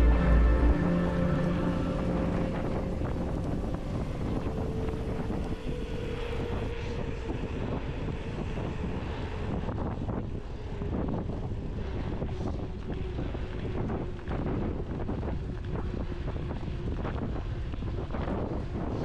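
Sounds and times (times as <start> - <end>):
music: 0.0 - 19.0
wind buffeting microphone: 0.0 - 19.0.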